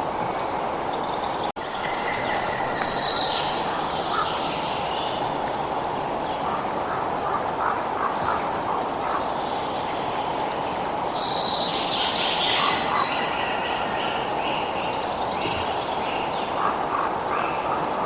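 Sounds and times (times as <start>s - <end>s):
birds singing: 0.6s - 5.4s, 8.0s - 17.8s.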